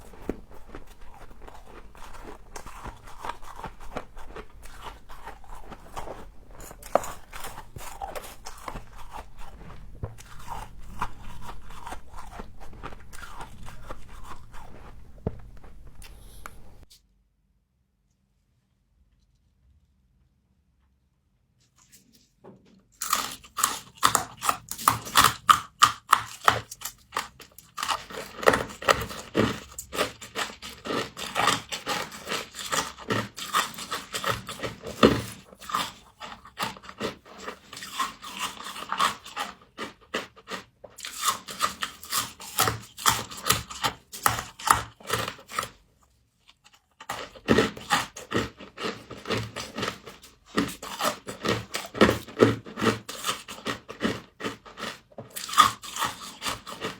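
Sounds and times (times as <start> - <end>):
crisp crunching while chewing: 0.0 - 16.9, 22.9 - 56.9.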